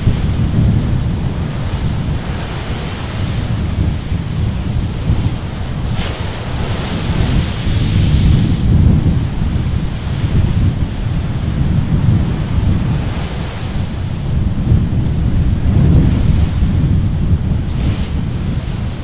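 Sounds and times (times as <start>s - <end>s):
waves breaking on beach: 0.0s - 19.0s
wind buffeting microphone: 0.0s - 19.0s.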